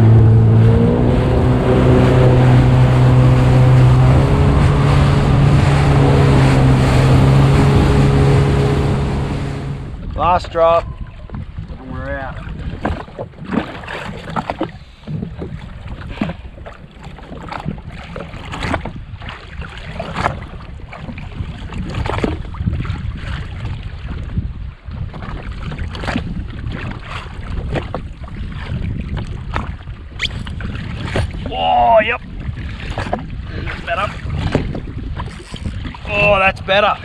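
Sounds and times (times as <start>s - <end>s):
short splashes and knocks: 0.0s - 37.0s
water slapping against hull: 0.0s - 37.0s
wind buffeting microphone: 0.0s - 37.0s.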